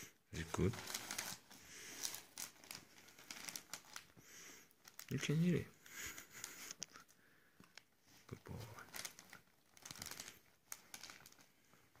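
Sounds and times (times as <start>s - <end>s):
newspaper crinkling: 0.4s - 12.0s.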